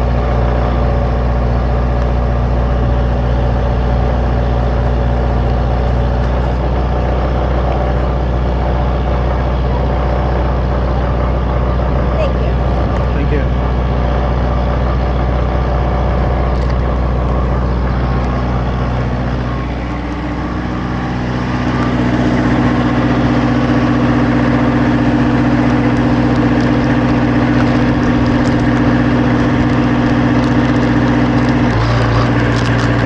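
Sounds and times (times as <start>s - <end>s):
generators humming: 0.0s - 33.0s
louder hum: 0.0s - 33.0s.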